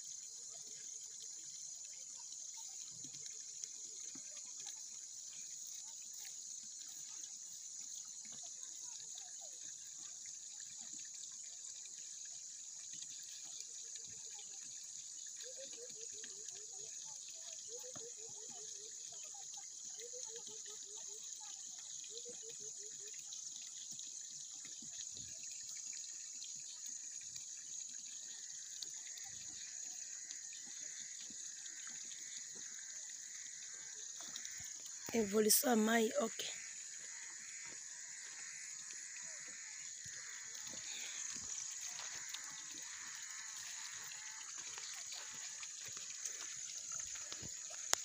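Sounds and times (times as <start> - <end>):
water trickling into pond: 0.0 - 48.0.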